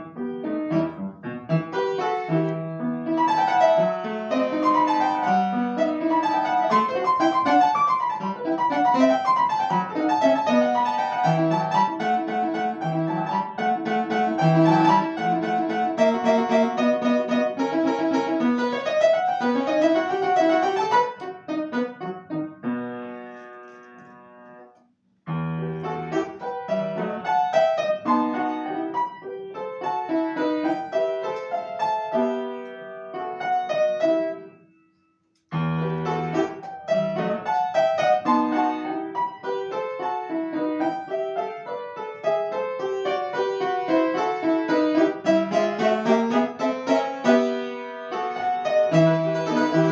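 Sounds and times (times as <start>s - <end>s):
solo piano classical piece: 0.0s - 49.9s.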